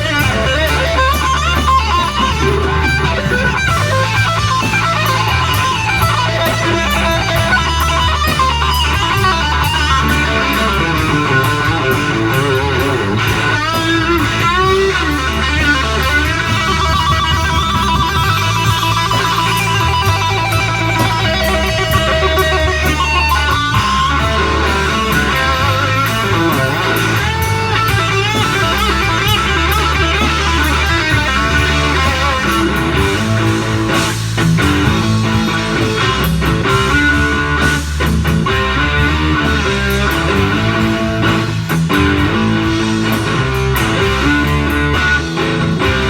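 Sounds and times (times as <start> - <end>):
electric guitar: 0.0 - 46.0
heavy low beat: 0.0 - 46.0
live rock band playing: 0.0 - 46.0.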